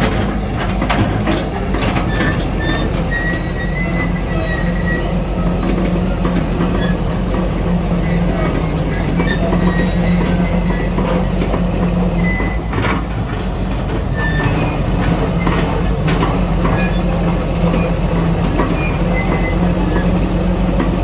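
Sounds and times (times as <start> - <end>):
excavator diesel engine running: 0.0 - 21.0
track chains squeaking and clanking: 1.1 - 21.0.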